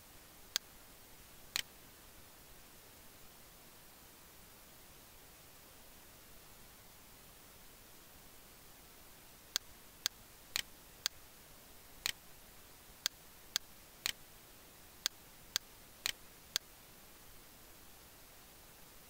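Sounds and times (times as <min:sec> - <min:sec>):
faint hiss: 0:00.0 - 0:19.0.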